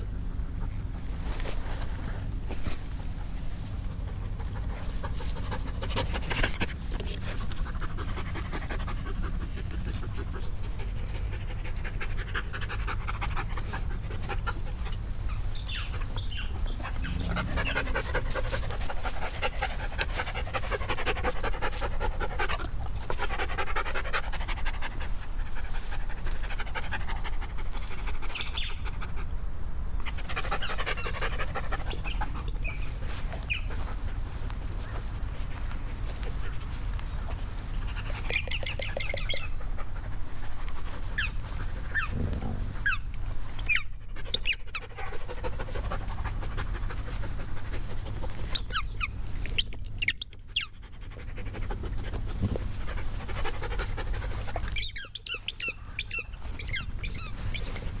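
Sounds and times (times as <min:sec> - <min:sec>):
dogs panting: 0:02.6 - 0:29.4, 0:30.0 - 0:58.0.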